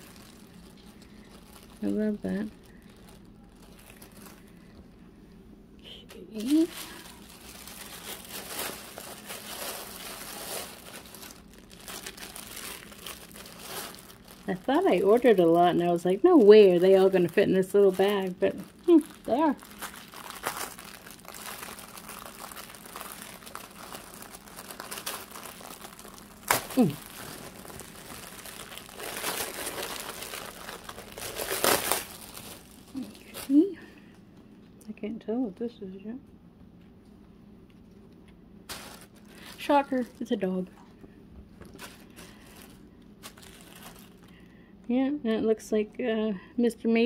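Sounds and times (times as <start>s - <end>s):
plastic packaging crinkling: 0.0s - 5.0s, 6.0s - 33.9s, 38.7s - 44.6s.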